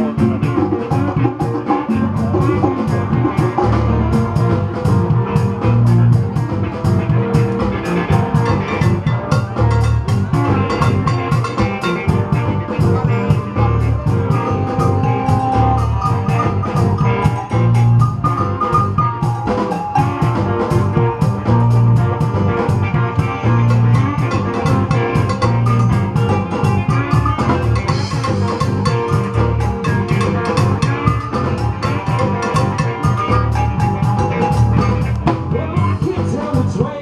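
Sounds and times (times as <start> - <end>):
drum kit beat: 0.0 - 37.0
live band playing: 0.0 - 37.0.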